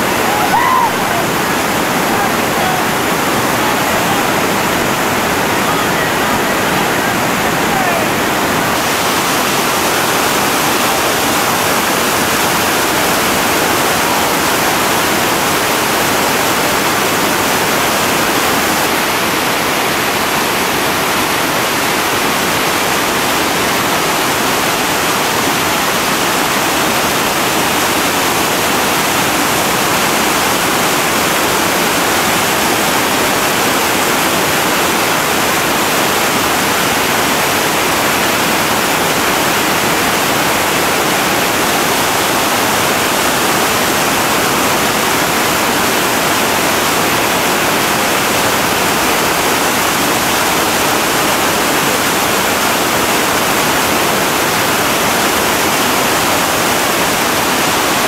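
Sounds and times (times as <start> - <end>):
whitewater rapid roaring: 0.0 - 58.0.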